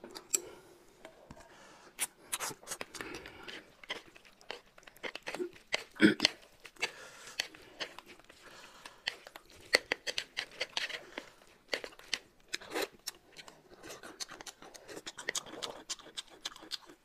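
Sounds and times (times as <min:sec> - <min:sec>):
wet eating smacks: 0:02.0 - 0:17.0.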